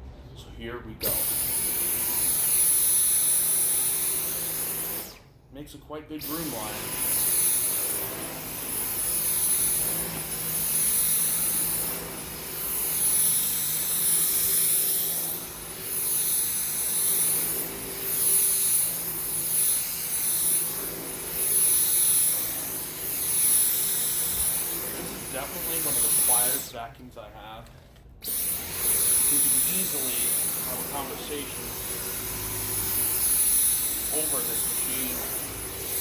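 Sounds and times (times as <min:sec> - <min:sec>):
vacuum cleaner motor whine: 0:01.0 - 0:05.3, 0:06.2 - 0:26.7, 0:28.2 - 0:36.0.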